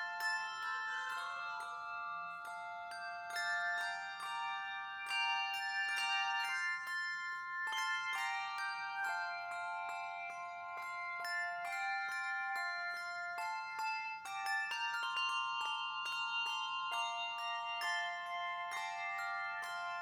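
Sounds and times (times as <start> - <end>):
bell-like tuned percussion melody: 0.0 - 20.0.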